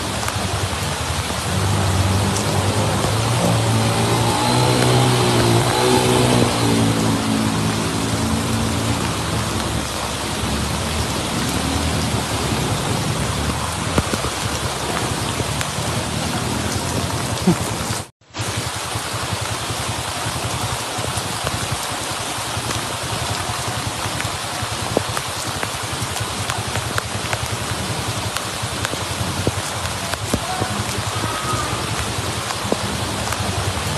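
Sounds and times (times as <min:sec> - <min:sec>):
heavy rain pouring: 0:00.0 - 0:33.9
motorcycle engine: 0:00.0 - 0:33.9.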